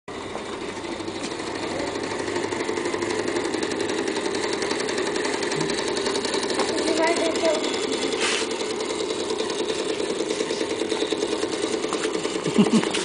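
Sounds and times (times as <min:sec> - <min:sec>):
model steam engine clattering: 0:00.1 - 0:13.0.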